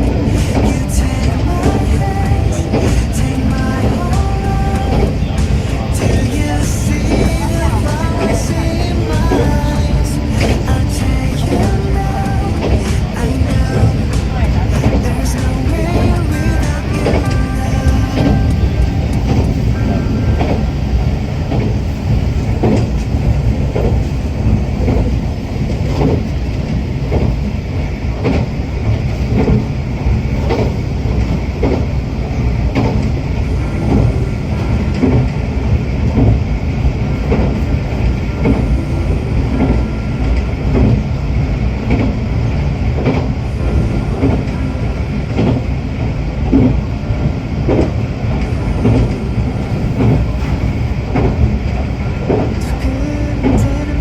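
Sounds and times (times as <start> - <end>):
railcar engine rumble: 0.0 - 54.0.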